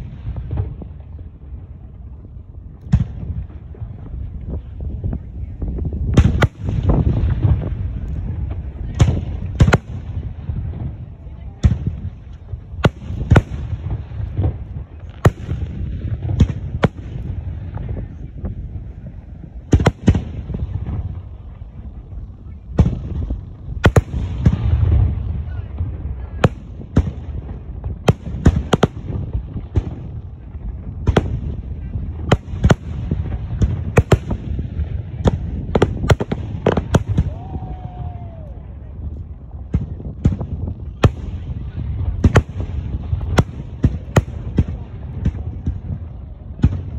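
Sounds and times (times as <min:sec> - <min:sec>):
fireworks sharp bangs: 0:00.0 - 0:38.2, 0:39.2 - 0:46.9
low rumble of distant fireworks: 0:00.0 - 0:46.9.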